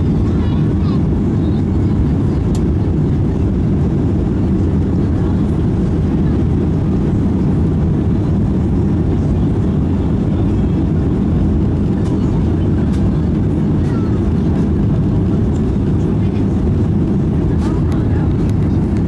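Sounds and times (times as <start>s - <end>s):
low rumble of jet engines: 0.0s - 19.0s
rushing airflow: 0.0s - 19.0s.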